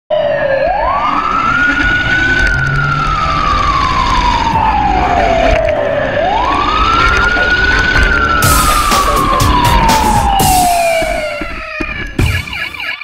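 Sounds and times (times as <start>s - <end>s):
police siren wailing: 0.1s - 13.0s.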